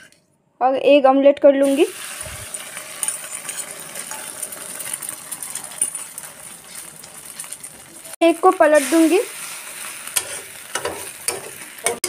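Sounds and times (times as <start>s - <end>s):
egg sizzling in hot oil: 1.6s - 12.0s.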